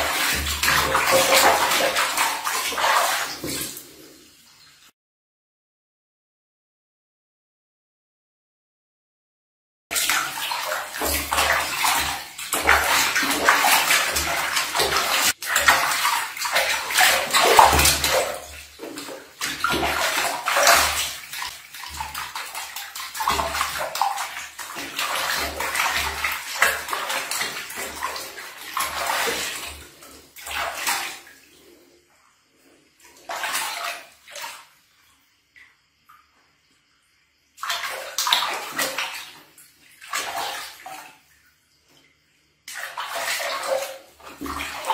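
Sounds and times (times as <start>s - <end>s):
water splashing in a basin: 0.0s - 4.9s, 9.9s - 44.9s.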